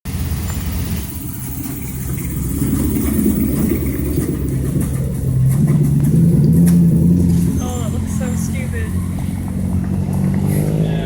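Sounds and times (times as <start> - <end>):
car engine running: 0.1 - 11.0.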